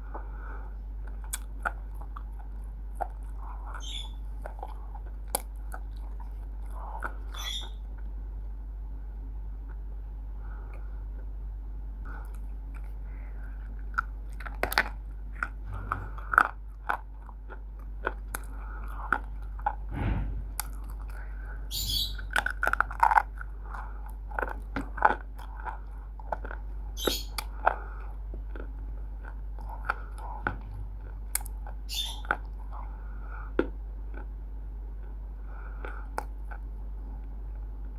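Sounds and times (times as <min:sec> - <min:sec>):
crunchy chewing: 0:00.0 - 0:08.2, 0:12.1 - 0:19.9, 0:20.6 - 0:37.9.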